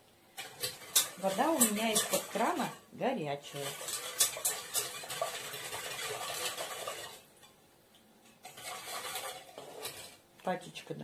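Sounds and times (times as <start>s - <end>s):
spoon stirring in metal saucepan: 0.3s - 7.6s, 8.2s - 10.2s.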